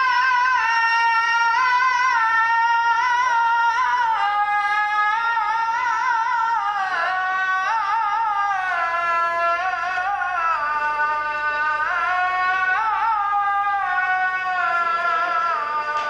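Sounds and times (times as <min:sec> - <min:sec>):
person singing unaccompanied: 0:00.0 - 0:16.0.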